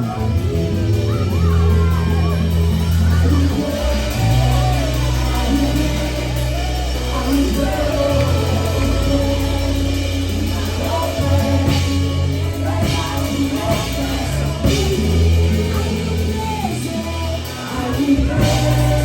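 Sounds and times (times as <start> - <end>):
deep steady bass line: 0.0 - 19.0
drums: 0.0 - 19.0
people singing: 0.0 - 19.0.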